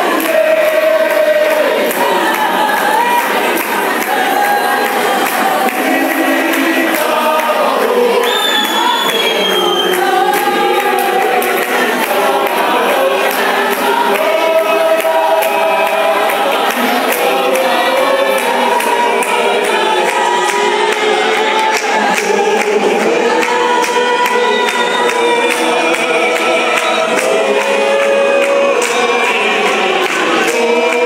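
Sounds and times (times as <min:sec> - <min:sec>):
church choir singing a hymn: 0:00.0 - 0:31.0.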